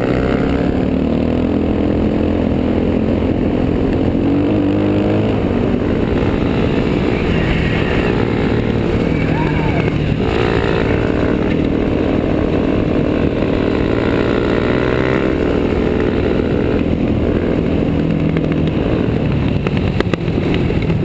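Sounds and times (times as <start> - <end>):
dirt bike engines cruising: 0.0 - 21.0
road rumble: 0.0 - 21.0
wind rush on camera: 0.0 - 21.0.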